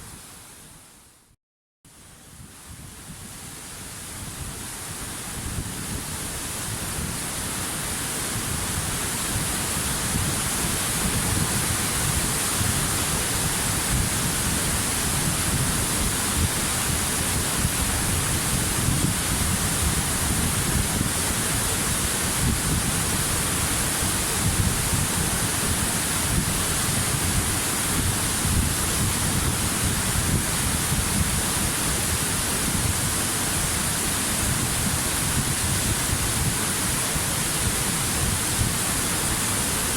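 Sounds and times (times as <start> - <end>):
waterfall crashing into pool: 4.6 - 39.9.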